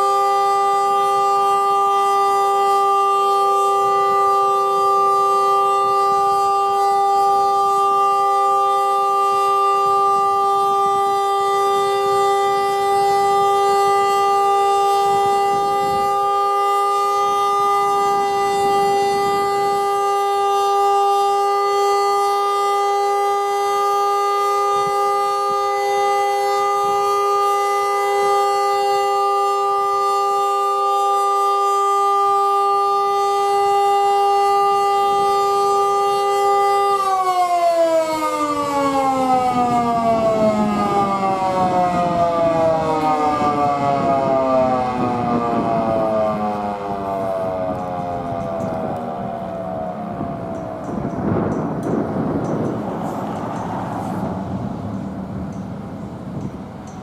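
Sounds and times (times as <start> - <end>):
outdoor warning siren: 0.0 - 57.0.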